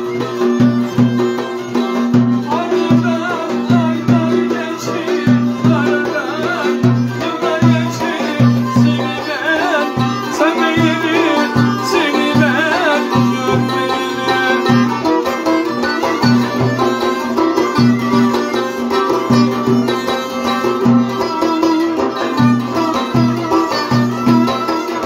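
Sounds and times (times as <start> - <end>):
folk dance tune on violin: 0.0 - 25.0.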